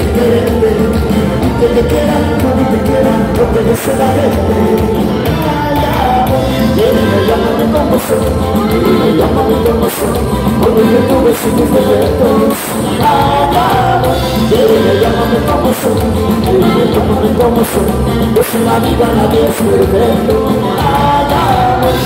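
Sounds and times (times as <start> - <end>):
live band playing dance music: 0.0 - 22.0.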